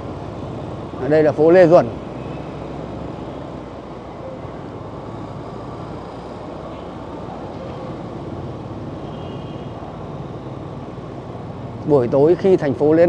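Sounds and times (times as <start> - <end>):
traffic noise from moving vehicle: 0.0 - 13.0.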